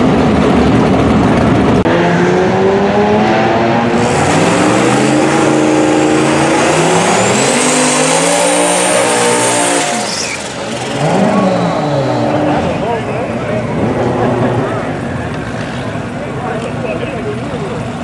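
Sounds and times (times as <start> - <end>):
car engine at high revs: 0.0 - 18.0
distant car rumble: 0.0 - 18.0.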